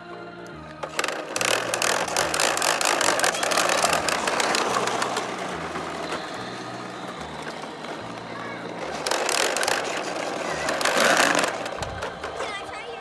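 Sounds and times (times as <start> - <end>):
plastic toy wheels clicking: 0.4 - 13.0.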